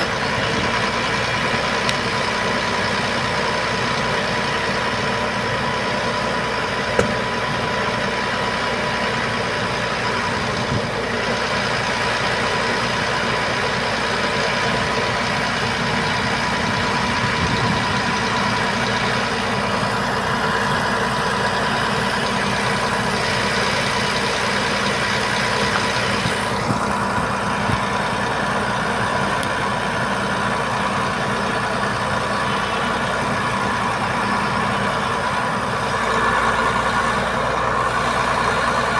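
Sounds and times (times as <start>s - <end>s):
constant whine: 0.0s - 38.9s
diesel truck engine idling: 0.0s - 38.9s.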